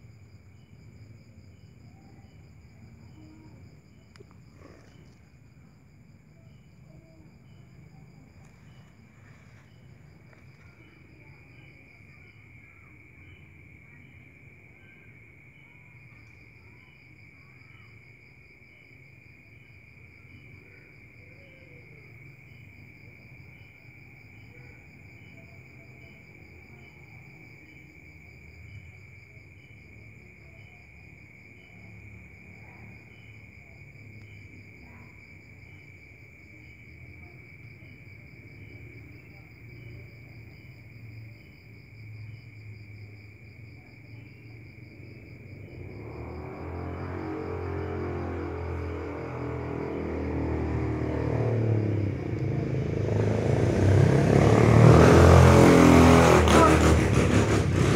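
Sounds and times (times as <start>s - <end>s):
steady high insect trill: 0.0s - 56.3s
fast pulsing insect trill: 0.0s - 57.8s
soft regular cricket chirp: 0.0s - 57.9s.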